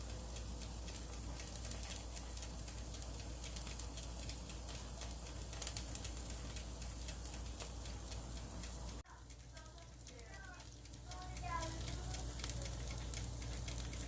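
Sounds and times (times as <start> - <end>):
meat sizzling on a grill: 0.0 - 9.0, 9.6 - 14.0.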